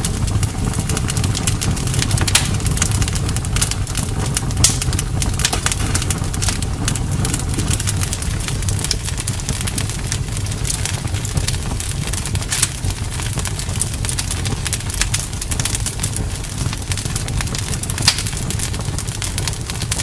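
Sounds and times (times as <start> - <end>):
campfire crackling and popping: 0.0 - 20.0
steady low rumble: 0.0 - 20.0.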